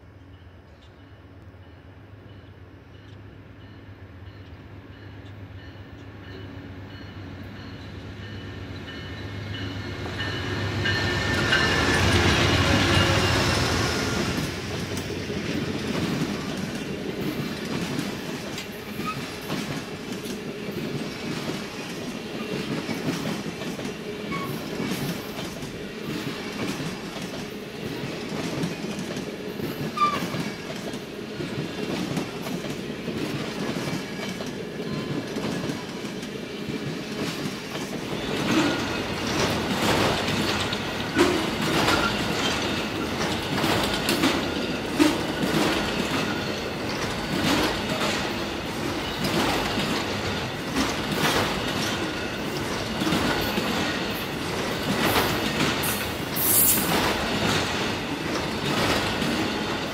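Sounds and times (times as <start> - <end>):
diesel locomotive engine: 0.0 - 59.9
train wheels clickety-clack: 1.7 - 59.9.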